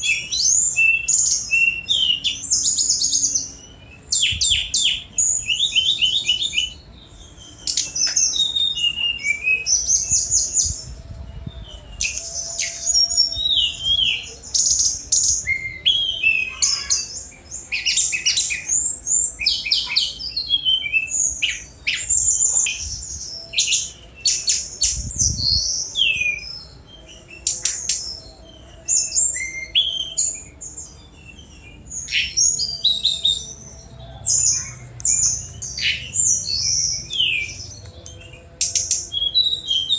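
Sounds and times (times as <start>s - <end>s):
flycatcher singing trills: 0.0s - 39.9s.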